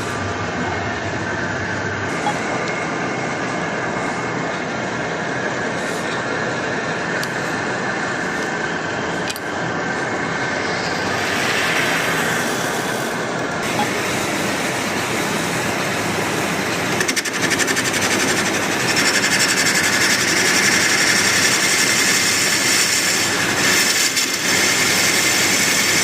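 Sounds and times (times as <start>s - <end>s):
lathe humming: 0.0s - 26.0s.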